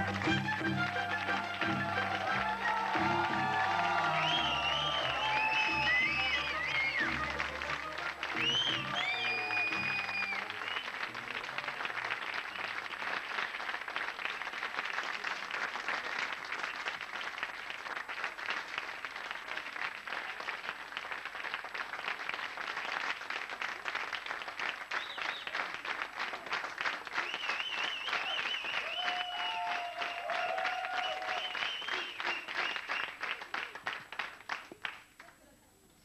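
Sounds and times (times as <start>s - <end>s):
audience applauding: 0.0s - 35.4s.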